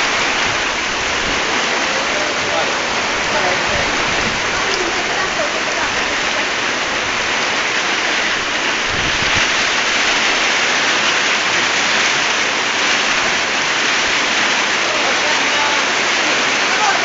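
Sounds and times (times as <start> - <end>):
hail and rain pelting down: 0.0 - 17.0.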